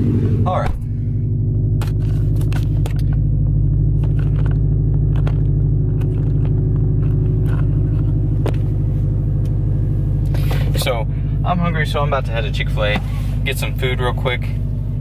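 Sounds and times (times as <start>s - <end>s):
car engine running steadily: 0.0s - 15.0s.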